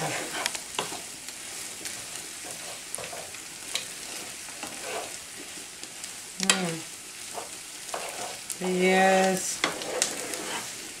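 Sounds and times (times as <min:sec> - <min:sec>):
corn sizzling in a skillet: 0:00.0 - 0:11.0
spoon stirring and scraping pan: 0:00.0 - 0:11.0.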